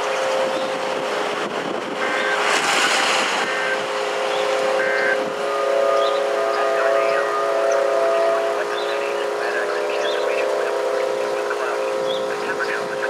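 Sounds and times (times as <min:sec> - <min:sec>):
outdoor noise rush: 0:00.0 - 0:13.0
warning siren steady tone: 0:00.0 - 0:13.0.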